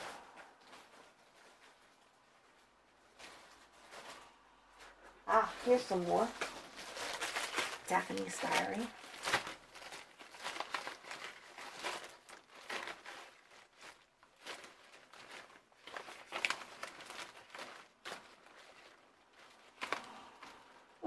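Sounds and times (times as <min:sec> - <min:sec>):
paper sheets rustling: 0:00.0 - 0:21.0
plastic sleeve crinkling: 0:00.0 - 0:21.0.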